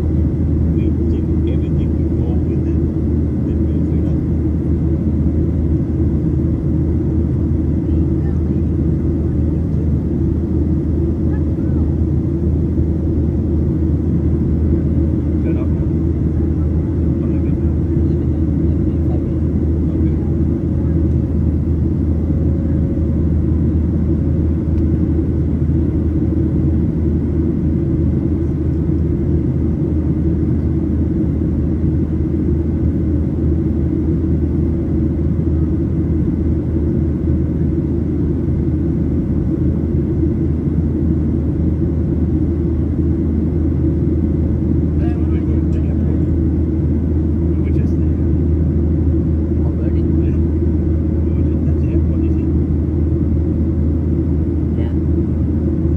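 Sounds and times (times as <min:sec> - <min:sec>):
airplane engines rumbling: 0:00.0 - 0:55.9.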